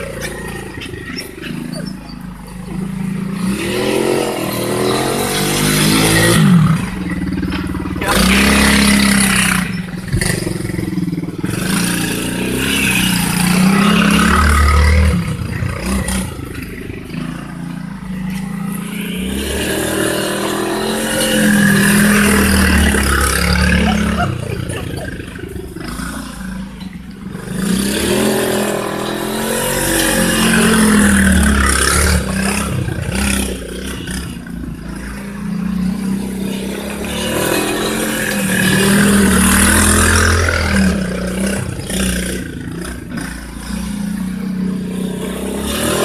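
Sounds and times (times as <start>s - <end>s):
quad engine revving: 0.0s - 46.0s.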